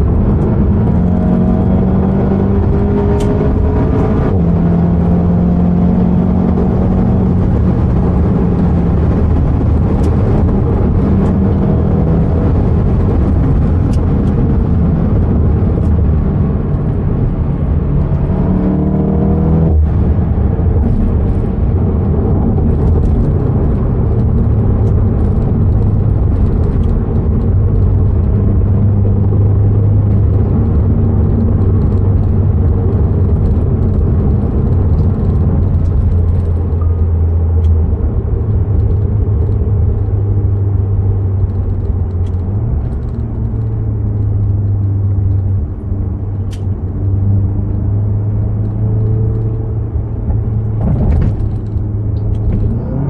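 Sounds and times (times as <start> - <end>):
car engine and exhaust: 0.0 - 53.0
road noise: 0.0 - 53.0.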